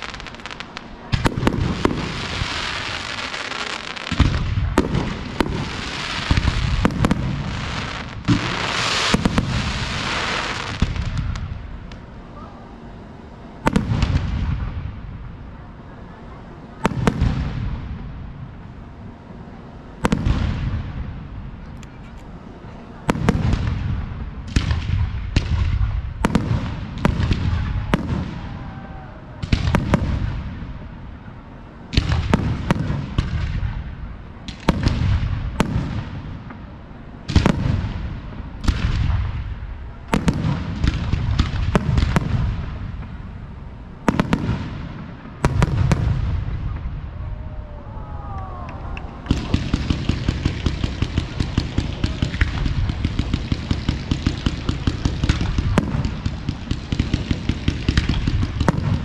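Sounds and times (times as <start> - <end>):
firework bangs with rolling echo: 0.0 - 12.1, 13.6 - 15.4, 16.8 - 19.1, 20.0 - 21.6, 23.0 - 31.2, 31.8 - 59.0
rapid crackling fireworks: 0.0 - 59.0.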